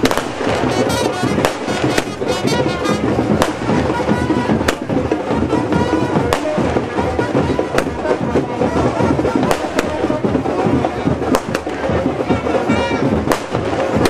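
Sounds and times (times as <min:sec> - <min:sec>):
fireworks bangs: 0:00.0 - 0:14.0
loud music: 0:00.0 - 0:14.0.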